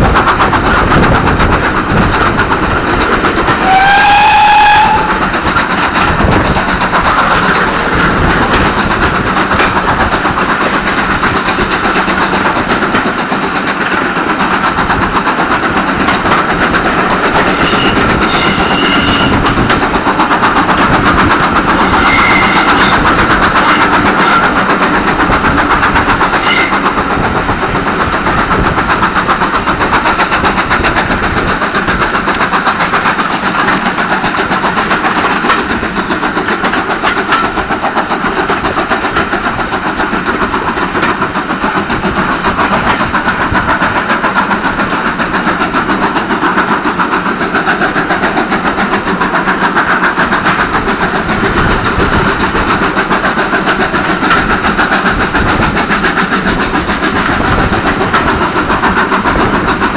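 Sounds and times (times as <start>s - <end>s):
train running noise and wind: 0.0s - 59.9s.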